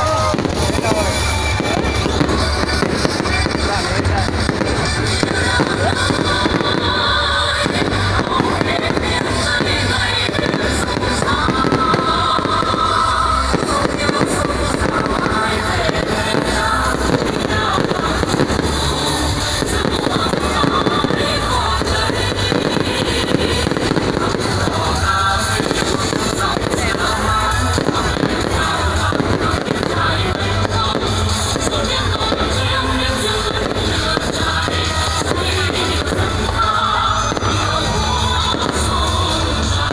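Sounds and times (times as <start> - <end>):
fireworks bursting and crackling: 0.0 - 39.9
music playing: 0.0 - 39.9.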